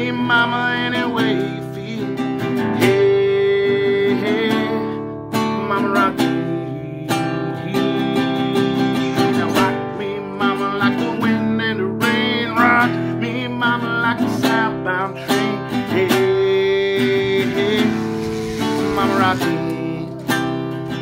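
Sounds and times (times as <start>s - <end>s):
acoustic guitar strumming: 0.0s - 21.0s
man singing wordless phrases: 0.0s - 21.0s.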